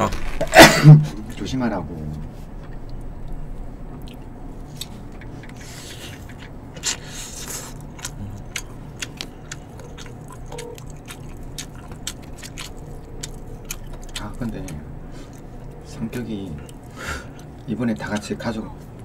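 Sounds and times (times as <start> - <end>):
person chewing food: 2.6 - 19.0.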